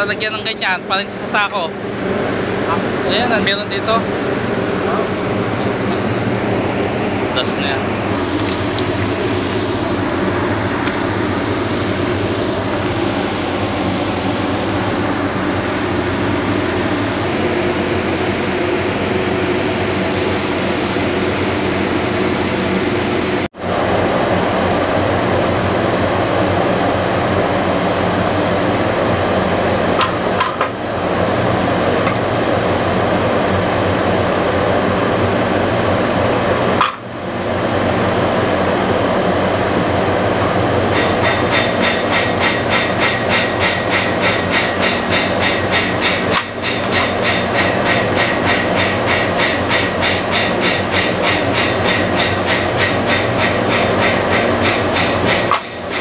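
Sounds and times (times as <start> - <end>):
loud mechanical noise: 0.0 - 56.0.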